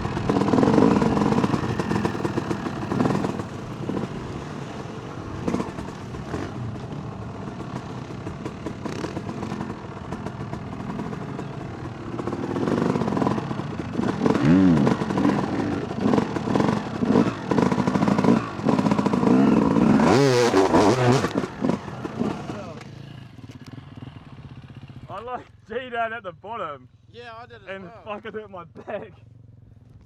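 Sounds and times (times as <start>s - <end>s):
dirt bike engine revving: 0.0s - 25.2s.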